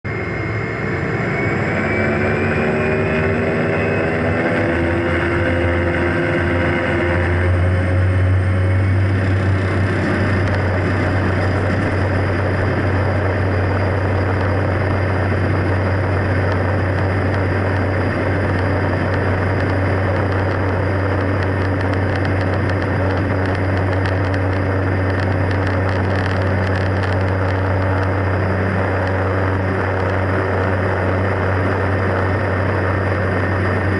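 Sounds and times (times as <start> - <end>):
turboprop engine drone: 0.0 - 33.9.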